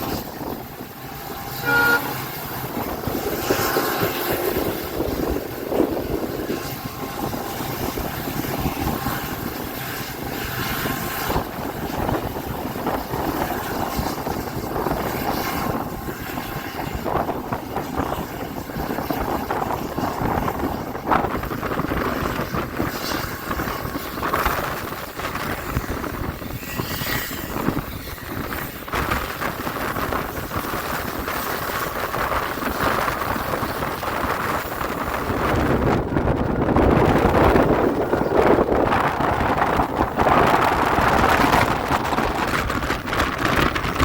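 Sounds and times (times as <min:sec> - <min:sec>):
train wheels rumbling on rails: 0:00.0 - 0:44.0
wind buffeting microphone: 0:00.0 - 0:44.0.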